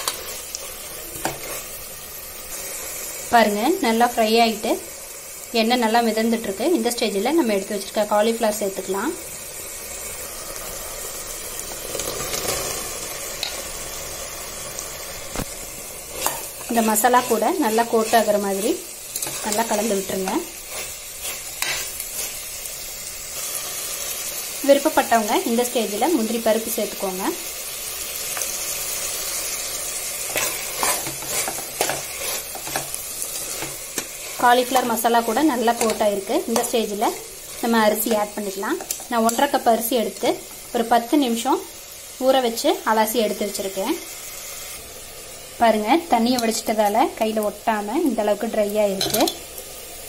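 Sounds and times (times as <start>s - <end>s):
masala sizzling in oil: 0.0s - 50.0s.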